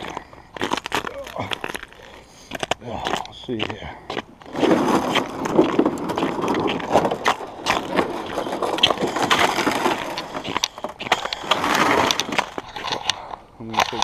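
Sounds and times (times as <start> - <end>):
footsteps crunching on frozen snow: 0.0 - 14.0.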